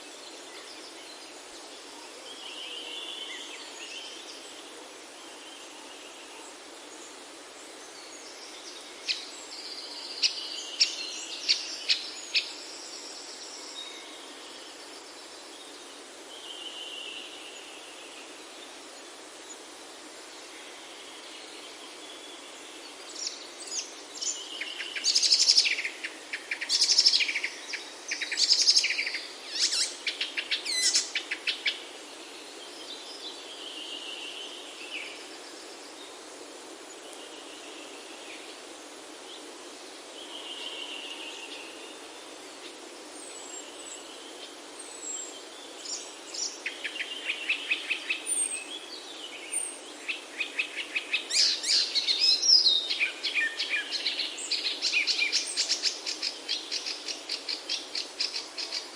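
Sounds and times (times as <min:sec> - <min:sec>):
low background hiss: 0:00.0 - 0:58.9
songbirds singing: 0:00.0 - 0:58.9.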